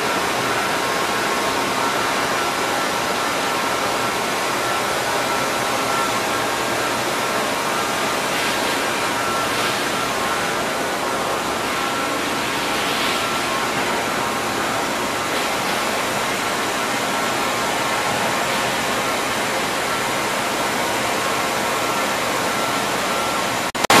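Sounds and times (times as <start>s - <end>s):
factory machinery drone and hiss: 0.0s - 24.0s
thin steady whine: 0.0s - 24.0s.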